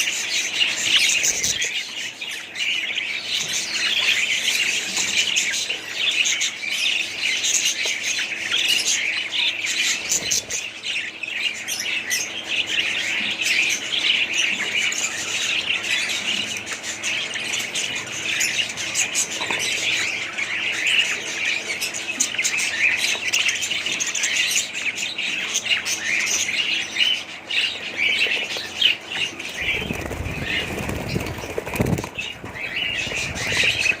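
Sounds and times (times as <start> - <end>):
budgerigars chattering and chirping: 0.0 - 34.0.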